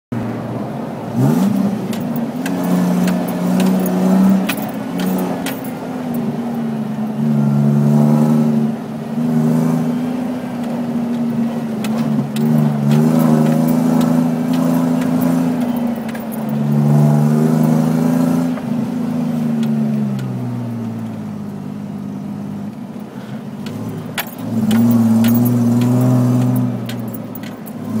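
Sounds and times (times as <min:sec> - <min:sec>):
off-road vehicle engine pulling hard: 0:00.1 - 0:28.0.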